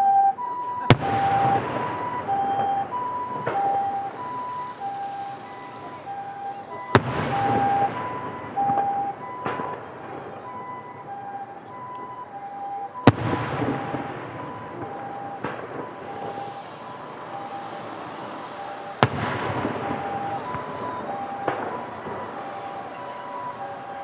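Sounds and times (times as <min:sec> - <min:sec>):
two-tone siren: 0:00.0 - 0:24.0.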